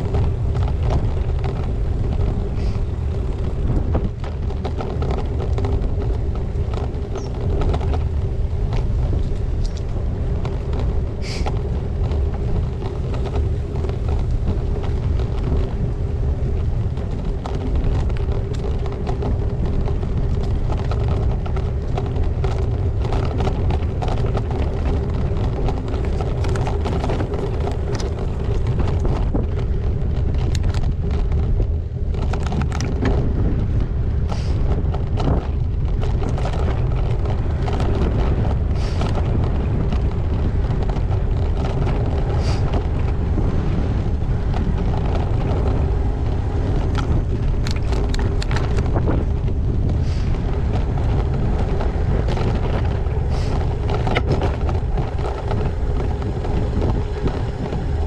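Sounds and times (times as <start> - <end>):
bike clicks and rattles: 0.0 - 58.0
bike tyres rumbling on gravel: 0.0 - 58.0
wind buffeting microphone: 0.0 - 58.0.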